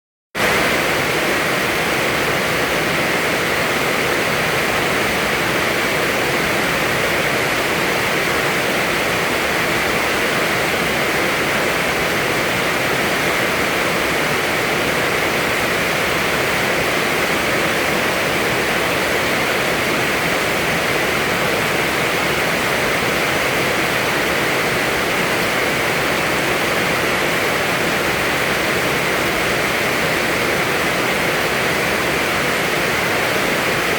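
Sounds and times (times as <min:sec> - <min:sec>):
heavy rain falling: 0:00.4 - 0:33.9.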